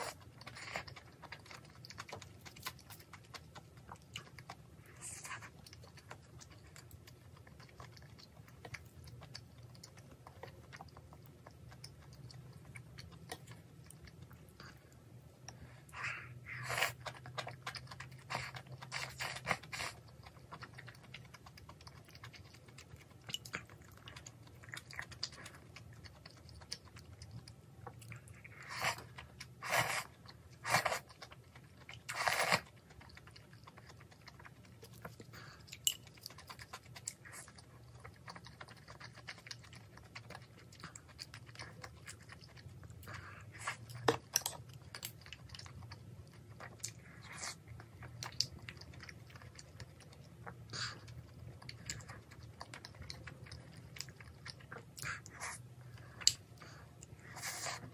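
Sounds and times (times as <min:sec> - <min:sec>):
soft chewing and mouth clicks: 0:00.0 - 0:57.9.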